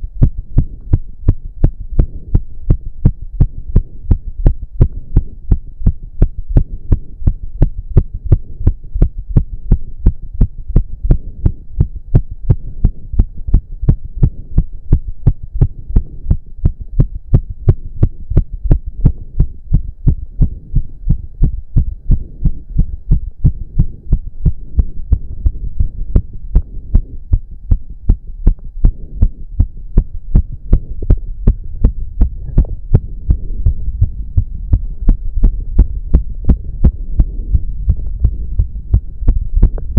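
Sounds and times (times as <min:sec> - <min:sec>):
heart pounding fast: 0:00.0 - 0:39.9
steady low hum: 0:00.0 - 0:39.9.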